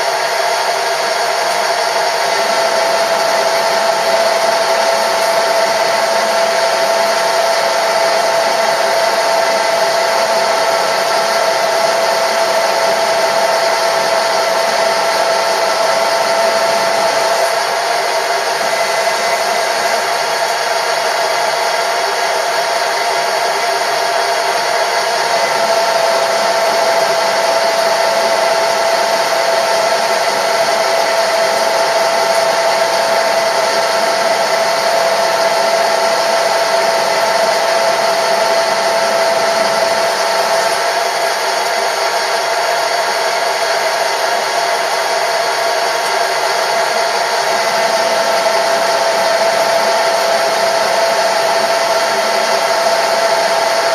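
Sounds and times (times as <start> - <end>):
machine tool whining: 0.0 - 53.9.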